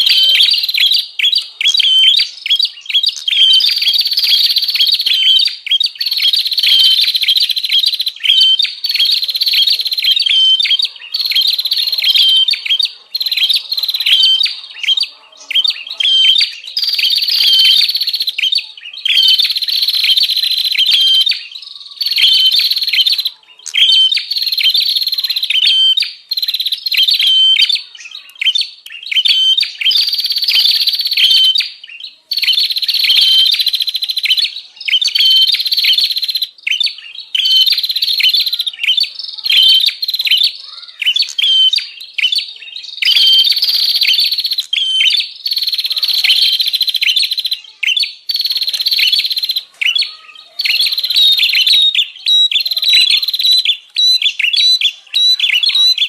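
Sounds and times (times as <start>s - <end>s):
bird chattering sharp chirps: 0.0s - 56.0s.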